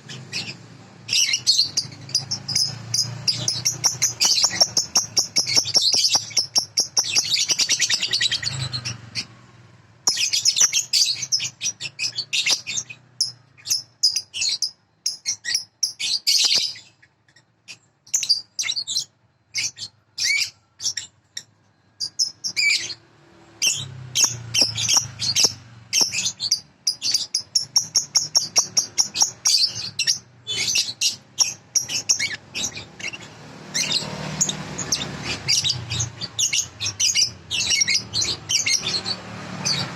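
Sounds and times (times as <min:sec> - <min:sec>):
bird song in chattering trills: 0:00.0 - 0:39.9
separate bird chirps: 0:00.0 - 0:39.9.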